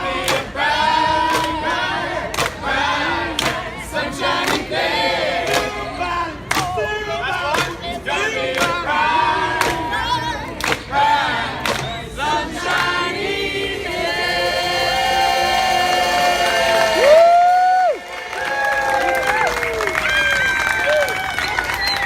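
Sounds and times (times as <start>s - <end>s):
crowd singing along: 0.0s - 18.4s.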